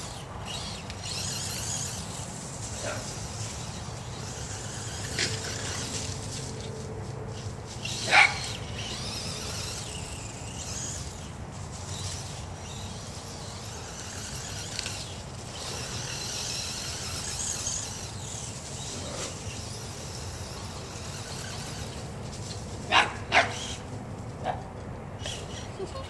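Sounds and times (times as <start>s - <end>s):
electric motor whining: 0.0s - 22.6s
tyres scrabbling over ground: 0.0s - 26.0s.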